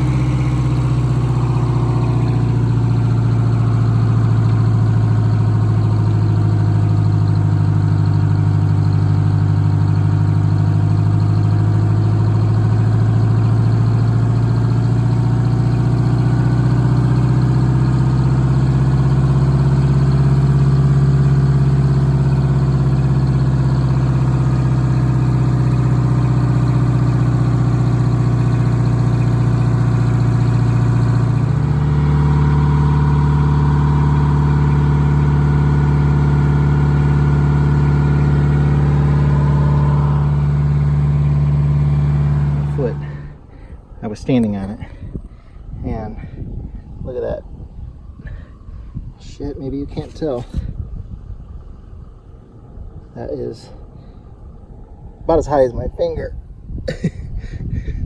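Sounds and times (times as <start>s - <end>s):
bus diesel engine idling: 0.0s - 56.6s.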